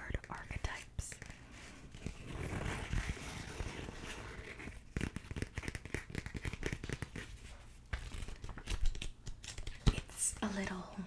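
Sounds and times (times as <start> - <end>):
paper pages rustling: 1.1 - 10.0.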